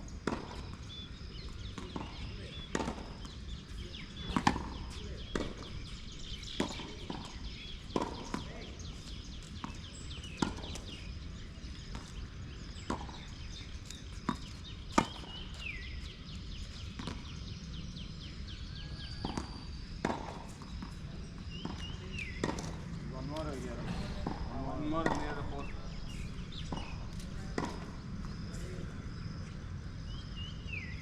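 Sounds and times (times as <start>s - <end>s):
tennis balls struck by rackets: 0.0s - 18.4s, 19.2s - 29.8s
tennis balls bouncing on court: 0.0s - 30.4s.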